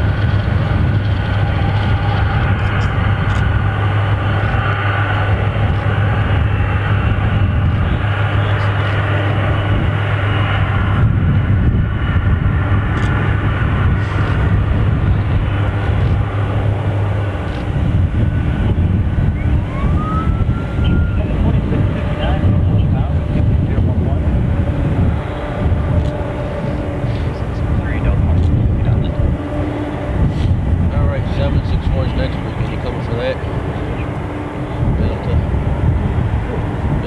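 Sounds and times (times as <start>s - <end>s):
jet engines rumbling and whining: 0.0s - 37.0s
low hum: 0.0s - 37.0s.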